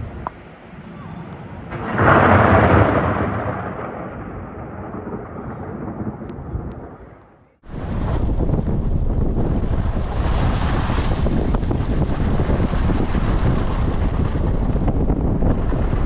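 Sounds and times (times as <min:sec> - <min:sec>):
rumble of thunder: 0:01.7 - 0:07.0, 0:07.6 - 0:16.0.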